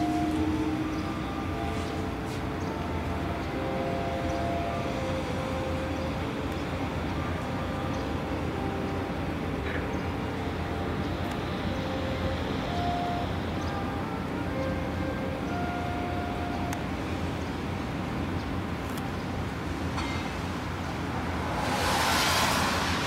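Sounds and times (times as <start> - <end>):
crane engine and winches humming: 0.0 - 23.0.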